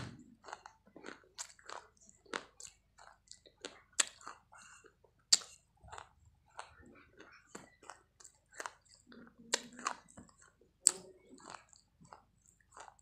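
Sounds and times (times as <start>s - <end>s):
crisp chewing and crunching: 0.0s - 13.0s.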